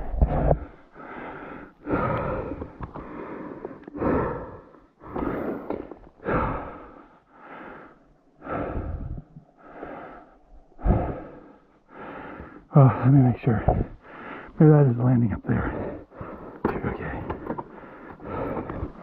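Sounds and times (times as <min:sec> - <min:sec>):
person panting: 0:00.3 - 0:14.6, 0:15.5 - 0:19.0.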